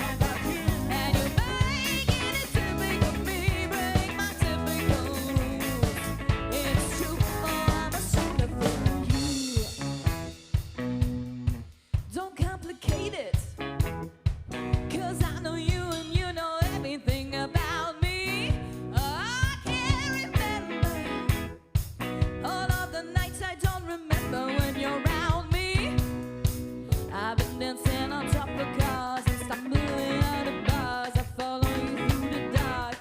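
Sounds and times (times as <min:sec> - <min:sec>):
bass: 0:00.0 - 0:33.0
drums: 0:00.0 - 0:33.0
funk band playing: 0:00.0 - 0:33.0.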